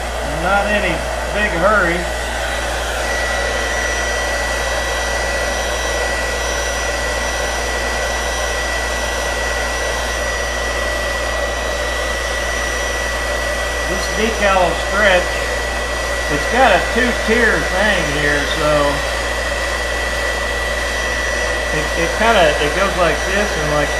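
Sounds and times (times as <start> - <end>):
hair dryer blowing with high whine: 0.0 - 23.9.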